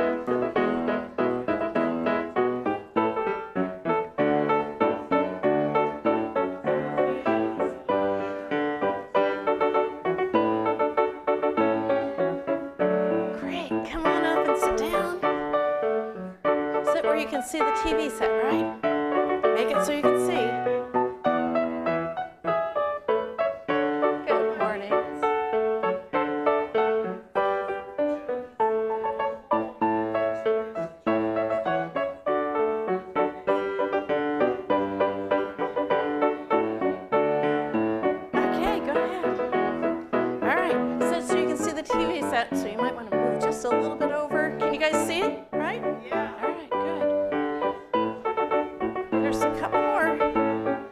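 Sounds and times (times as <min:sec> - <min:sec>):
piano music: 0:00.0 - 0:50.9.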